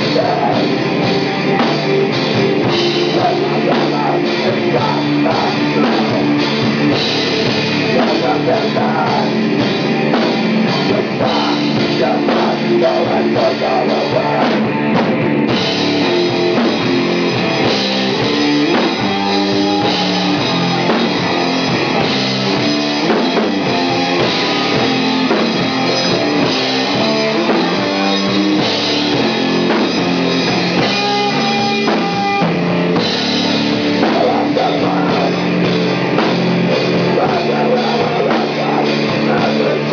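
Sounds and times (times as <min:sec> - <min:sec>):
drum kit with cymbals: 0:00.0 - 0:39.9
electric guitar: 0:00.0 - 0:39.9.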